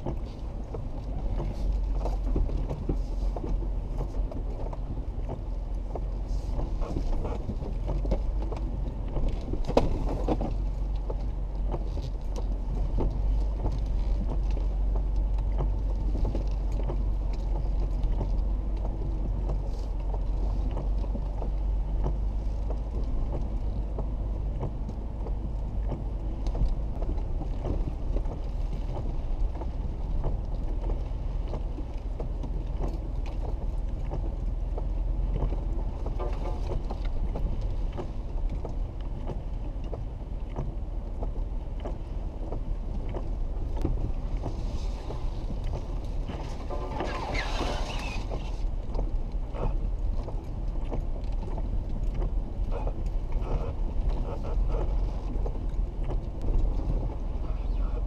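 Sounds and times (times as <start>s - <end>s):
vehicle engine and tyres rumbling: 0.0s - 58.0s.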